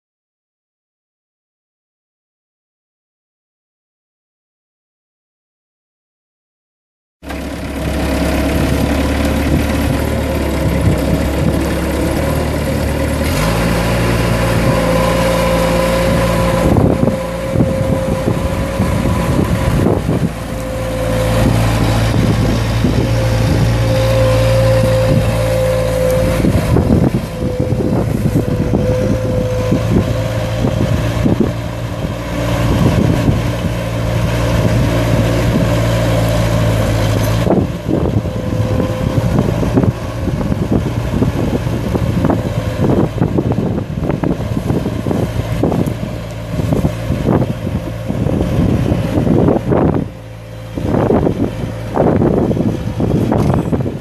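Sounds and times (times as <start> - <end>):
diesel engine running: 7.2 - 54.0
steady whine: 7.3 - 54.0.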